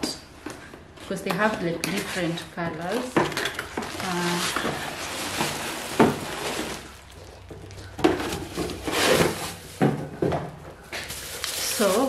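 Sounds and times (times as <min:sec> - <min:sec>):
plastic packaging crinkling: 0:01.0 - 0:12.0.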